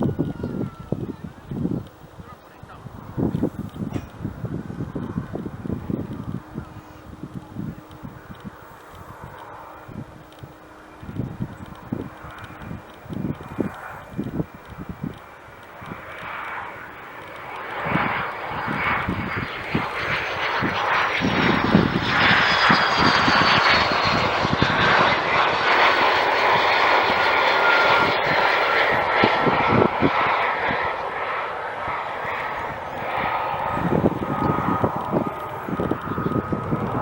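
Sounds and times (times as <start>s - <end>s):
jet roar passing: 0.0s - 37.0s
turbine whine: 0.0s - 37.0s.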